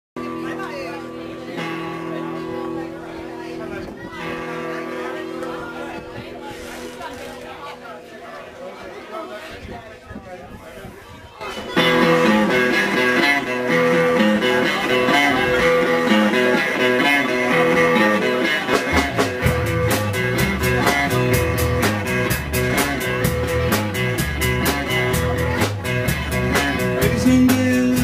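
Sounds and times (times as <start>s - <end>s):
electric guitar riff: 0.2s - 8.5s, 11.6s - 28.0s
full band playing: 0.2s - 9.6s, 11.4s - 28.0s.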